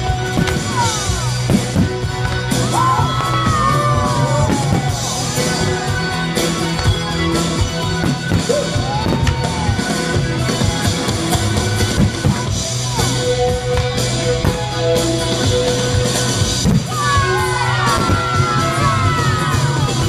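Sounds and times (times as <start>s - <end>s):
loud music with drums and bass: 0.0s - 20.0s.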